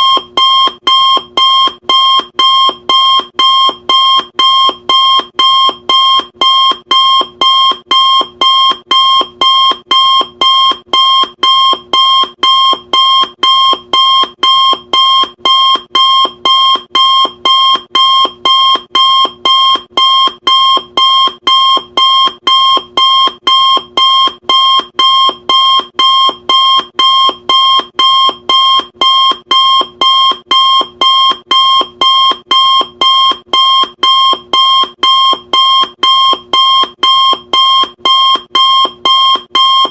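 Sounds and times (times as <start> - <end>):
timer alarm beeping: 0.0 - 39.9.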